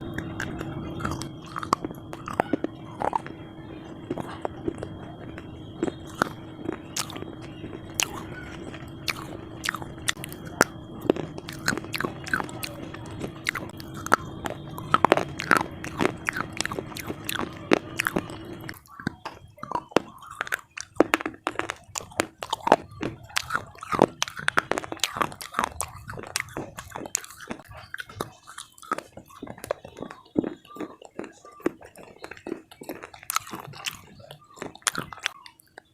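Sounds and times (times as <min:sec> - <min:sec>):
crunching brittle pieces: 0:00.0 - 0:03.4, 0:04.0 - 0:35.9
steady background hum: 0:00.0 - 0:35.9.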